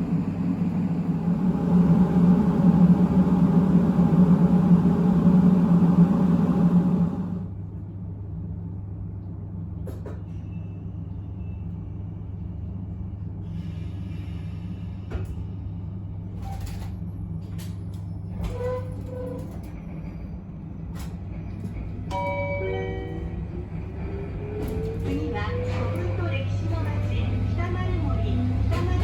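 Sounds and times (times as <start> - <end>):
train equipment hum: 0.0 - 29.0.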